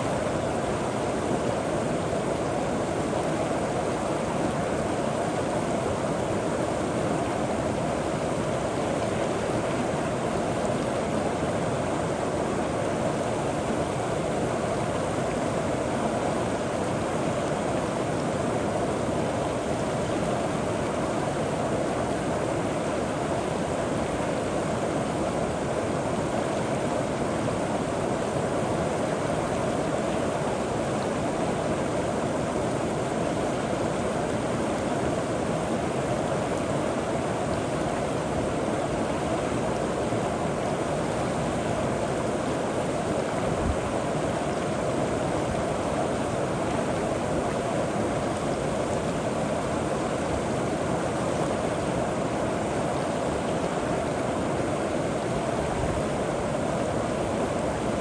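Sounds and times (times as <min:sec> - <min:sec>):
river water gurgling over rocks: 0:00.0 - 0:58.0.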